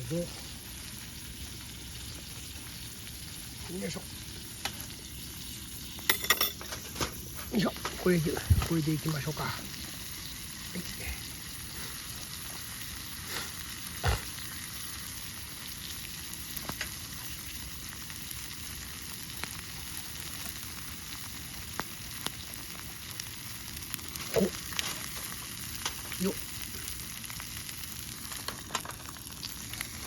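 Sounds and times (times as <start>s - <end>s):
steak sizzling on a grill: 0.0s - 30.0s.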